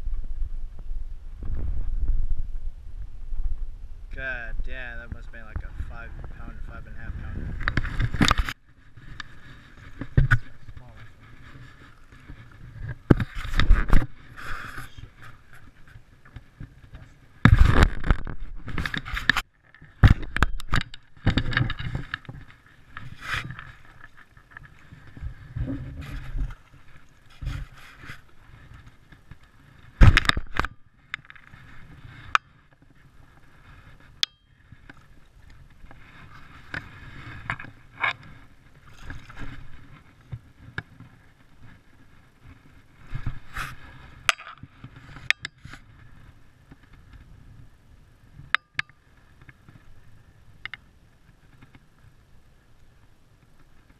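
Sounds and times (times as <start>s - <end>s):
handling noise on camera microphone: 0.0s - 47.7s.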